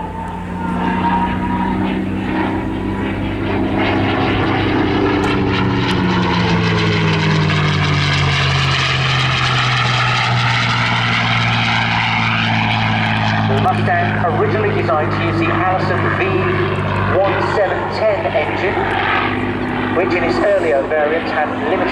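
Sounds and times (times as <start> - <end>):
propeller plane engine flying past: 0.0 - 21.9.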